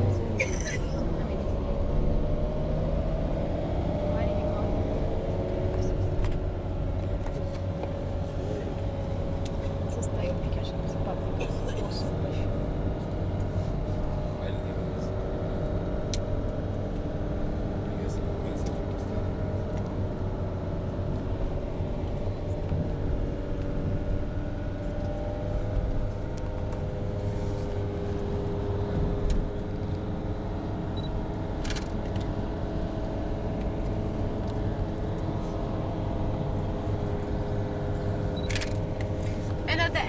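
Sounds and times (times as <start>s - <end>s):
car engine hum: 0.0s - 40.0s
road rumble: 0.0s - 40.0s.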